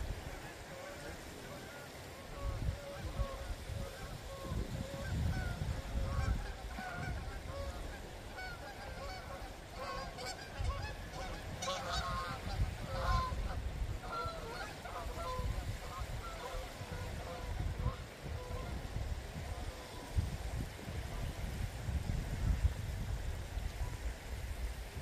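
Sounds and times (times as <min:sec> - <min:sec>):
waterfowl calling: 0:00.0 - 0:20.2
wind gusting on microphone: 0:00.0 - 0:25.0.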